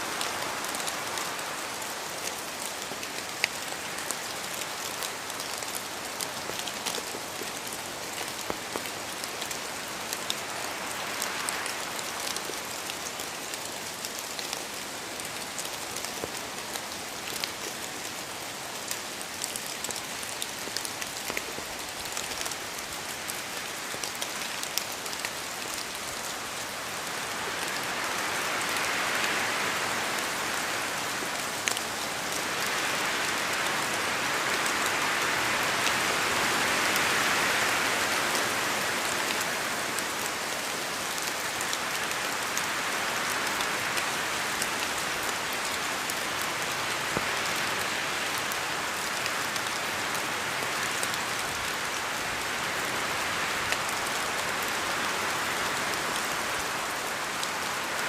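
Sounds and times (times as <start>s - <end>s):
rain hissing in forest: 0.0s - 58.0s.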